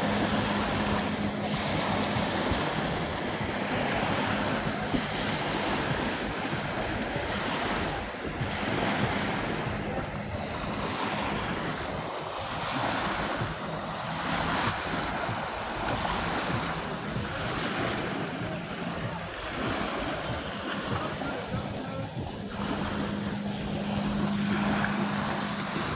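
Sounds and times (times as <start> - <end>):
small waves breaking on sand: 0.0 - 25.9
wind buffeting microphone: 0.0 - 25.9.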